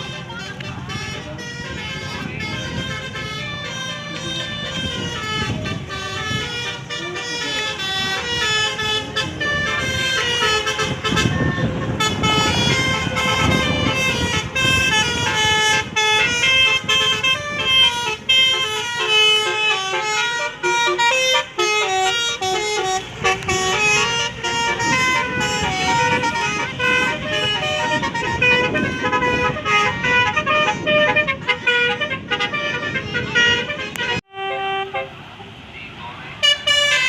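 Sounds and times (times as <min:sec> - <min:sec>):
multi-tone bus horn melody: 0:00.0 - 0:35.7, 0:36.3 - 0:37.0
vehicle engine rumble: 0:00.0 - 0:37.0.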